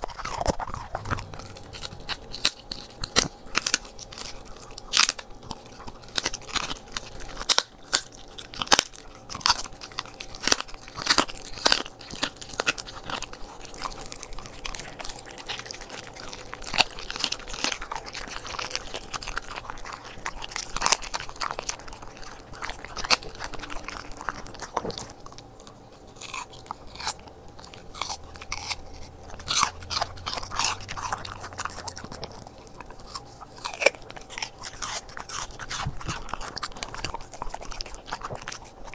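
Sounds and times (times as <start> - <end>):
dog crunching bones: 0.0 - 38.9.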